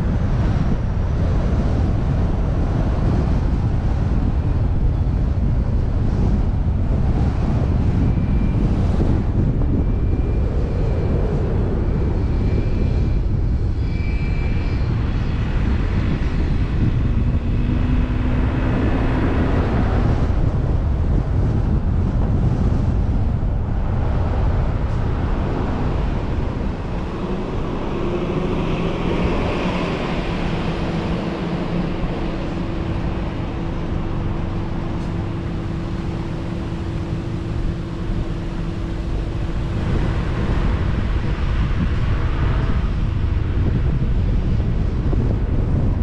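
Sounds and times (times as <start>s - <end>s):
low hum: 0.0s - 46.0s
road and wind rumble: 0.0s - 46.0s.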